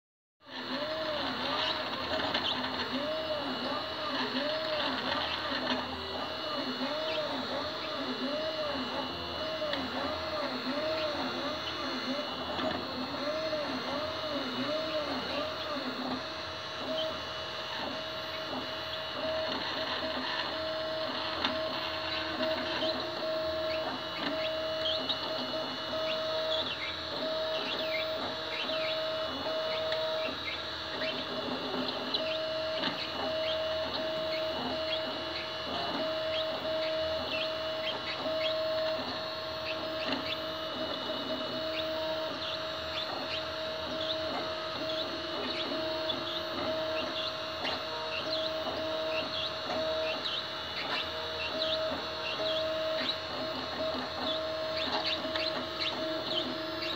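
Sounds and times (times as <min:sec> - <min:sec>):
stepper motors whining and chirping: 0:00.4 - 0:56.9.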